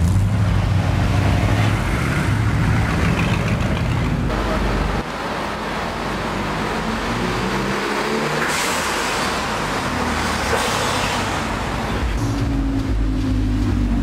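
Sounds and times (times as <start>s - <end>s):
cars driving past: 0.0s - 14.0s
tyres on road: 0.0s - 14.0s.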